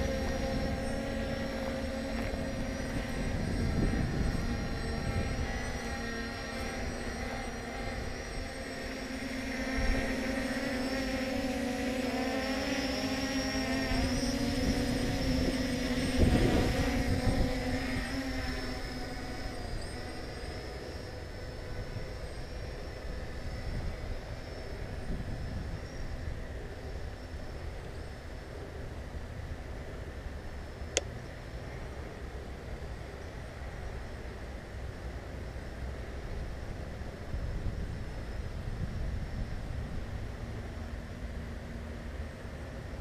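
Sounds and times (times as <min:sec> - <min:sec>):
drone motors buzzing: 0:00.0 - 0:43.0.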